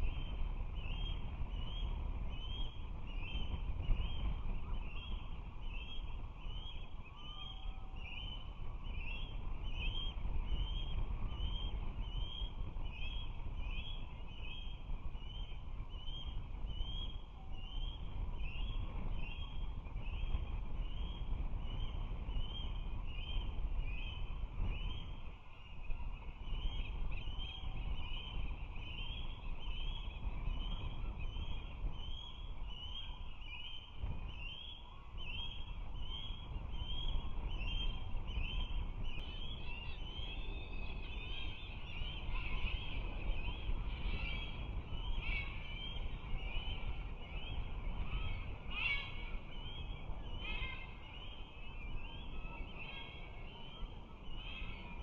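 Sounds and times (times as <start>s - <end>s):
osprey whistled chirps: 0.0s - 55.0s.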